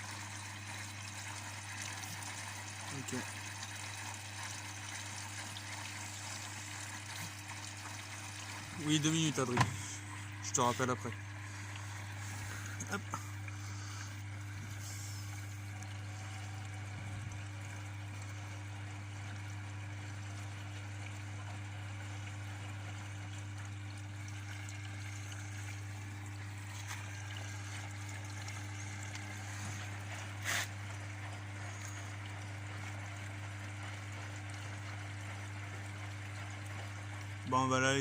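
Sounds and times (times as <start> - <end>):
washing machine running: 0.0 - 38.0
water flowing: 0.0 - 38.0.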